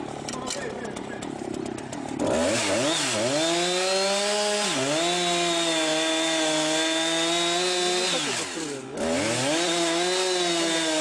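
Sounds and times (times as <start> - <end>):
chainsaw cutting into tree trunk: 0.9 - 11.0.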